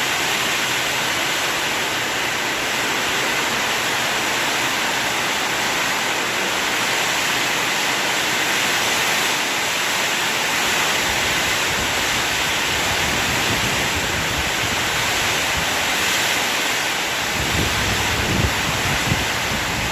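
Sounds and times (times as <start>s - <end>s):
heavy rain: 0.0s - 19.9s.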